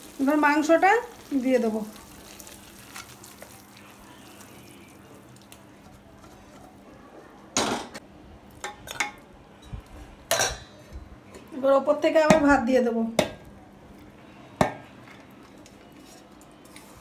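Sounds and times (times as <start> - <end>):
low kitchen hiss: 0.0 - 17.0.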